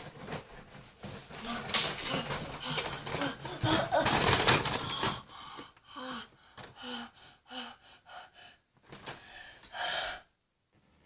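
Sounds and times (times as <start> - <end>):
person gasping for breath: 1.3 - 10.3.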